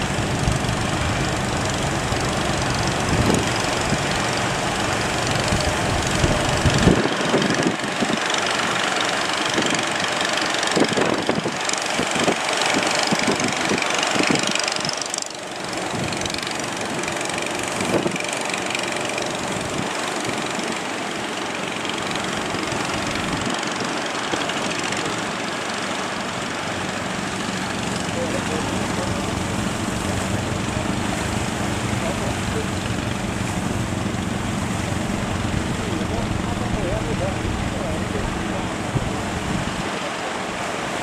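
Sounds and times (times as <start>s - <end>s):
boat engine running: 0.0s - 41.0s
surf: 0.0s - 41.0s
wind: 0.0s - 41.0s.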